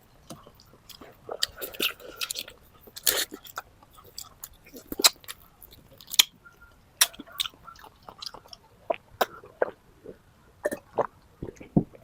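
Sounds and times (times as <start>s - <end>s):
person chewing chicken: 0.2s - 6.4s, 7.0s - 12.0s
mouth clicks and smacks: 0.2s - 12.0s.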